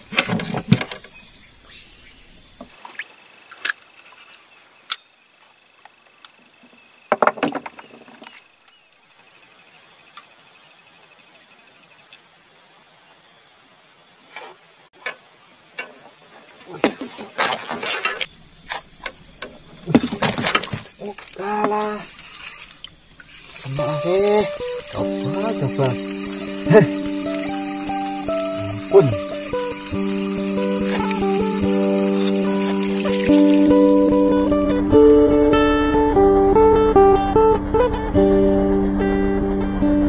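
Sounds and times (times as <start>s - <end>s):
insects chirping: 0.0s - 37.5s.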